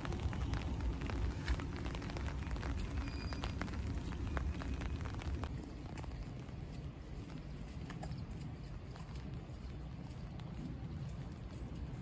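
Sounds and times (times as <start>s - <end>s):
raindrops pattering: 0.0s - 12.0s.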